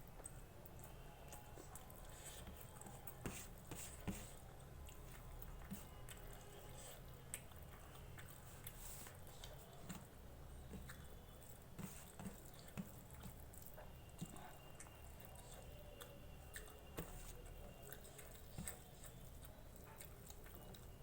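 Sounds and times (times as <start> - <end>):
chewing with mouth clicks: 0.0 - 21.0.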